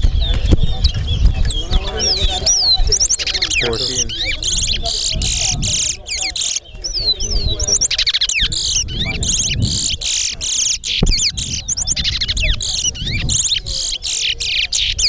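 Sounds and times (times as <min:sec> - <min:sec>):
finches singing: 0:00.0 - 0:15.0.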